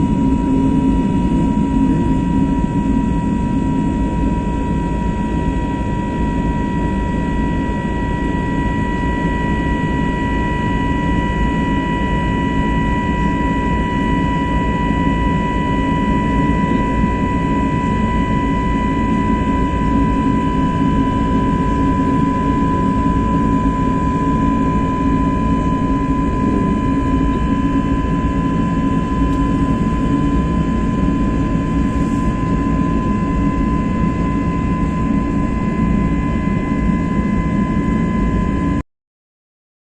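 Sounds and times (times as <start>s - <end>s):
jet engines rumbling and whining: 0.0s - 38.8s.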